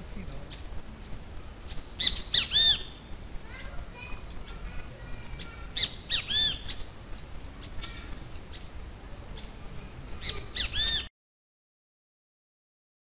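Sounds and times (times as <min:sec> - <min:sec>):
birds calling: 0:00.0 - 0:11.1
faint bird chirps: 0:00.4 - 0:11.1.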